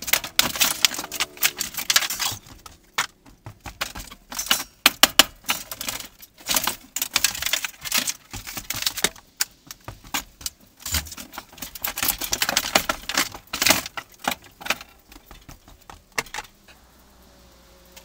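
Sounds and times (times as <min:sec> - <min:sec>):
clicks and knocks of debris: 0:00.0 - 0:16.8
metallic rattles: 0:00.0 - 0:17.0.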